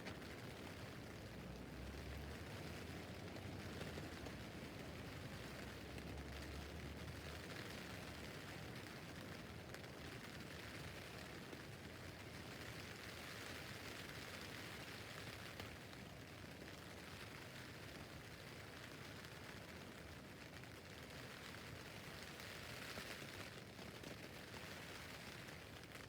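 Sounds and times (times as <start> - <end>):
rain on a tent roof: 0.0 - 26.0.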